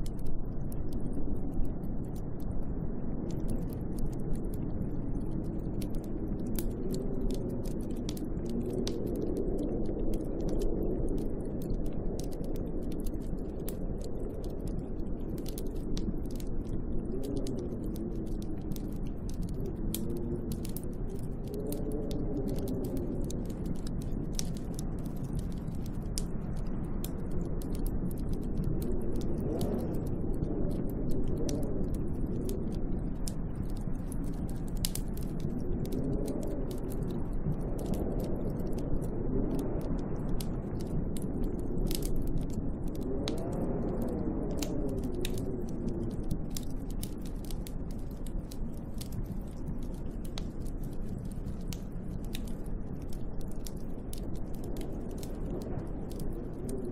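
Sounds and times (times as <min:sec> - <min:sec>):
small sharp ticks: 0:00.0 - 0:56.9
moaning wind gusts: 0:04.4 - 0:53.4.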